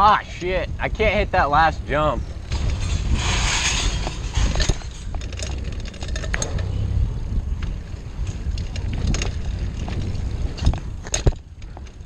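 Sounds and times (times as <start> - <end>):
wind rumble on microphone: 0.0 - 12.0
bike tyres on dirt: 1.9 - 12.0
bike rattles and clicks: 2.2 - 12.0.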